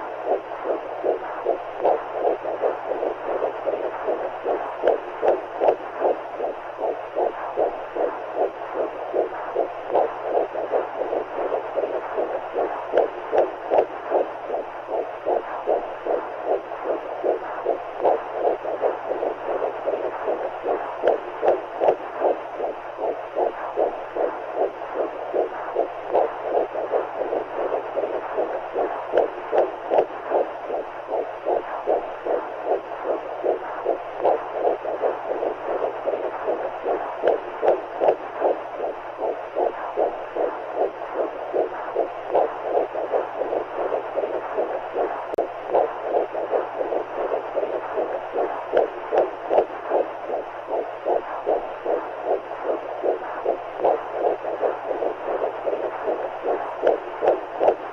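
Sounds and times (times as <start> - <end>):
muffled heartbeat: 0.0 - 57.9.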